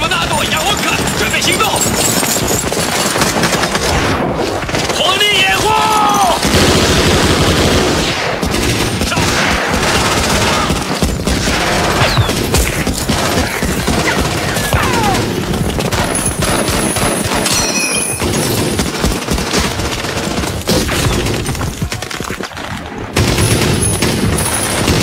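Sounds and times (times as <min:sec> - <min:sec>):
machine-gun and rifle fire: 0:00.0 - 0:25.0.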